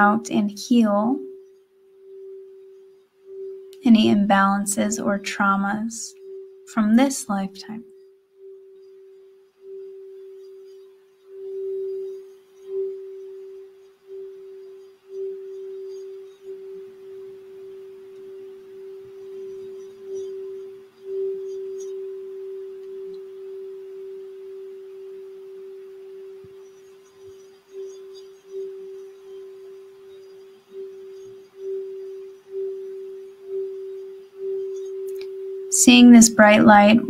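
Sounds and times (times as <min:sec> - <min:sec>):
singing bowl ringing tone: 0:00.0 - 0:37.0.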